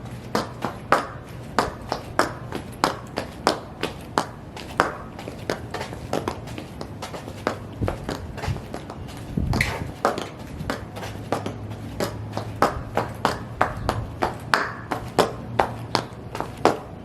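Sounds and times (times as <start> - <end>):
high heels clicking: 0.0 - 17.0.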